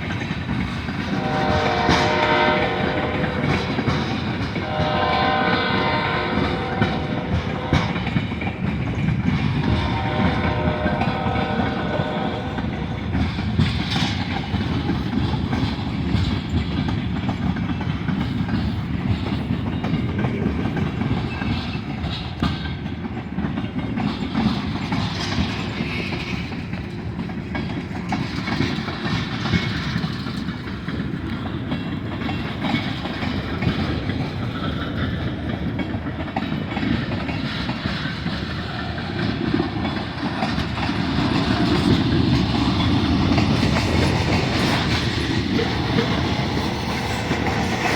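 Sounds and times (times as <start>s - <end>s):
freight train wheels rumbling on rail: 0.0s - 47.9s
wheel clicks on rail: 0.0s - 47.9s.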